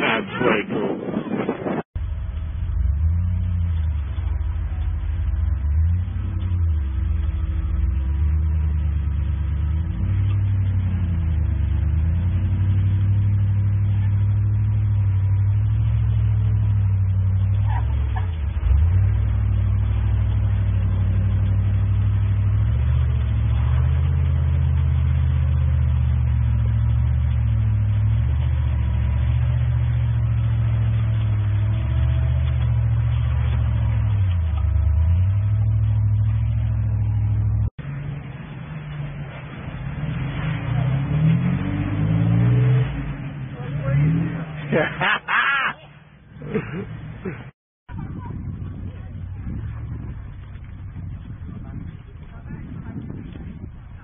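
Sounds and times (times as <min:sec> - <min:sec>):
car engine revving under load: 0:02.0 - 0:54.0.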